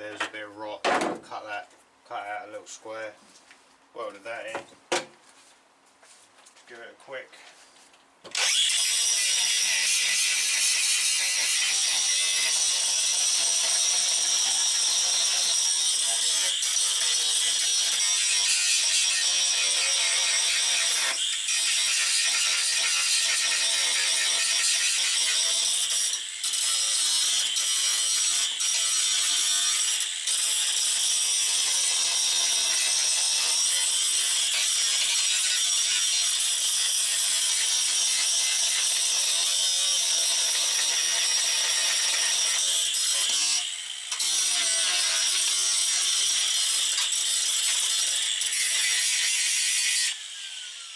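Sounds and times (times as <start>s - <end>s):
angle grinder grinding metal: 8.3s - 50.9s.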